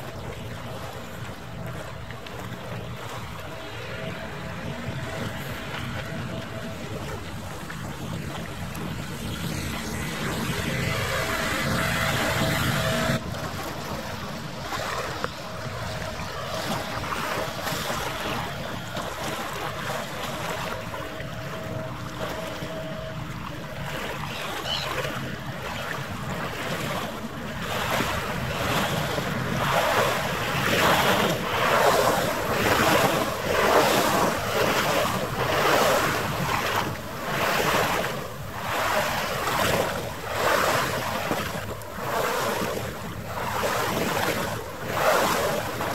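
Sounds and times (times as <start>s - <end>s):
water washing: 0.0s - 45.9s
wind on microphone: 0.0s - 45.9s.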